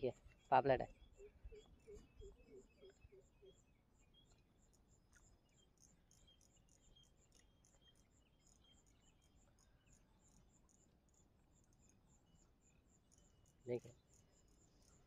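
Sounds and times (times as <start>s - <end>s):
crickets chirping: 0.1s - 15.0s.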